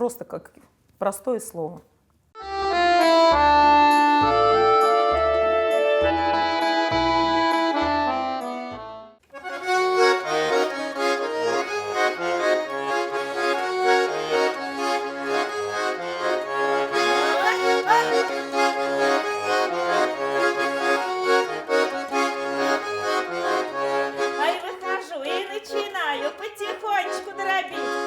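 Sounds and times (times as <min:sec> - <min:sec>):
accordion playing folk dance tune: 0:02.4 - 0:28.0.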